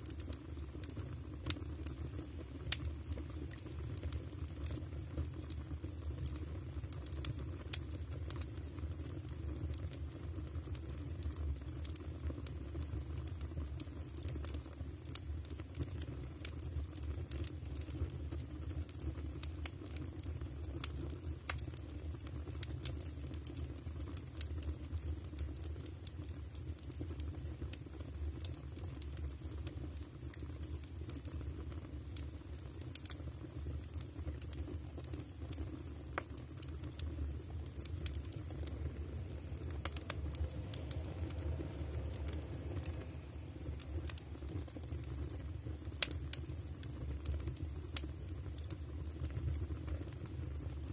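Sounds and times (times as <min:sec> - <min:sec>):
firewood crackling in a stove: 0:00.0 - 0:50.9
low fire rumble: 0:00.0 - 0:50.9.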